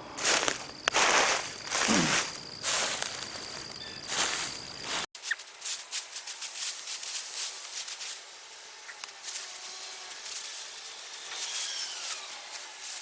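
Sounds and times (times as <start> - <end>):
dry plants and soil rustling: 0.0 - 13.0.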